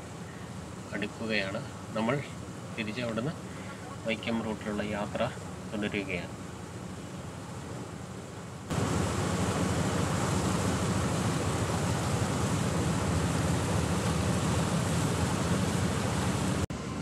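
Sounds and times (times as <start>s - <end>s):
ferry wake churning: 0.0s - 17.0s.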